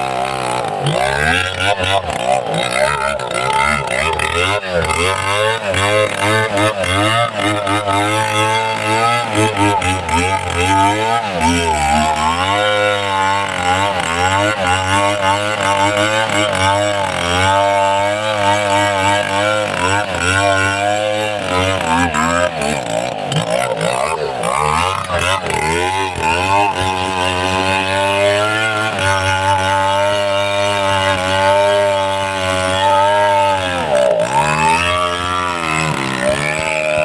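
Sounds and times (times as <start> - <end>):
chainsaw cutting tree trunk: 0.0 - 37.0.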